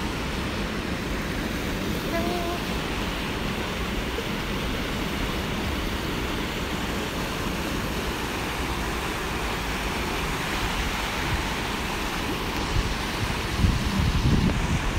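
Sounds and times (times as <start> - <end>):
low wind rumble on microphone: 0.0 - 14.9
river water rushing over rapids: 0.0 - 14.9.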